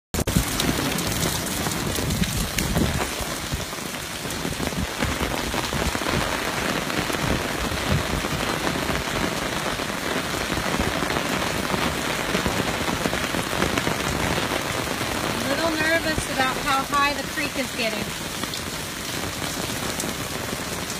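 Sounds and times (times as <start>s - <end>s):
flooding creek rushing: 0.2s - 20.9s
steady rain falling: 0.2s - 20.9s.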